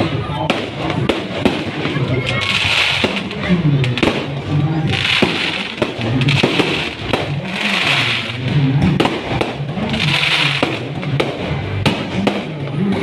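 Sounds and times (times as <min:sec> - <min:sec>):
fireworks banging: 0:00.0 - 0:13.0
fireworks hissing crackle: 0:00.1 - 0:12.5.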